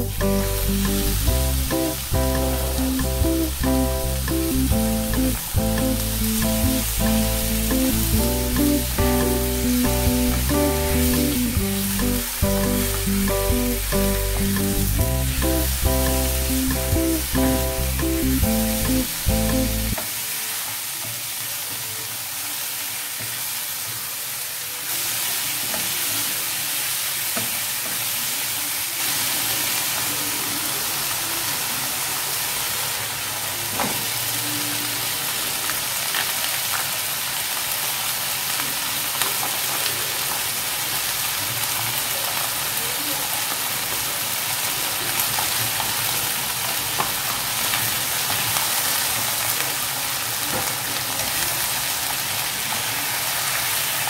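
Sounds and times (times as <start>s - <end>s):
chicken sizzling in a wok: 0.0s - 54.0s.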